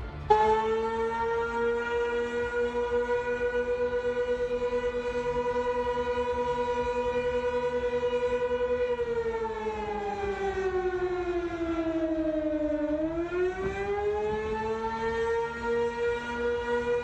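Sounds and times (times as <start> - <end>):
tornado warning siren: 0.0 - 17.0.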